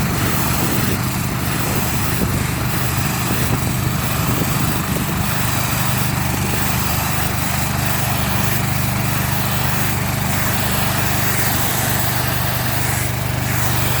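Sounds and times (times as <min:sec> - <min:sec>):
pressure washer engine drone: 0:00.0 - 0:14.0
water spray hiss: 0:00.0 - 0:14.0.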